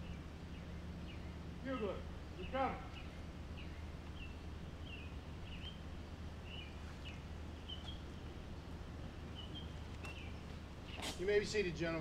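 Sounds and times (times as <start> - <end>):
songbird chirping: 0.0 - 11.6.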